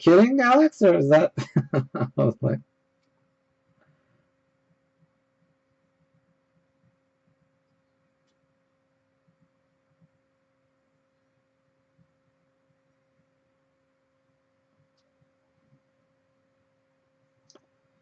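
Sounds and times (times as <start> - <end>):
faint two-tone hum: 0.0 - 18.0.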